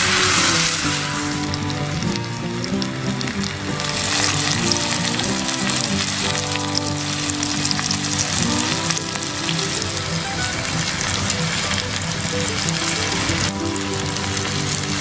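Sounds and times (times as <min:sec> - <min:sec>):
background music: 0:00.0 - 0:15.0
steak sizzling in pan: 0:00.0 - 0:15.0.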